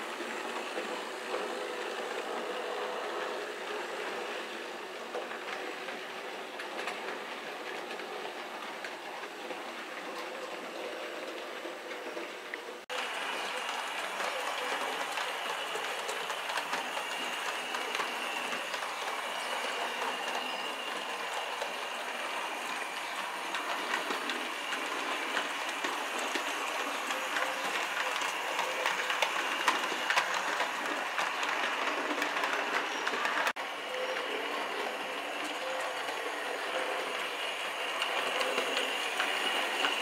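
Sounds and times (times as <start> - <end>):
model train rolling: 0.0 - 40.0
wheels clicking over rail joints: 0.0 - 40.0.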